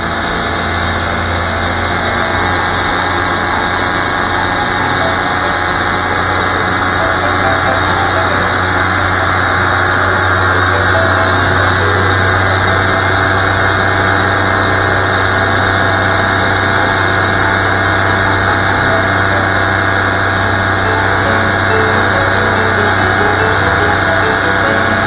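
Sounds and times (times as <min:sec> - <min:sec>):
paramotor engine drone: 0:00.0 - 0:25.0.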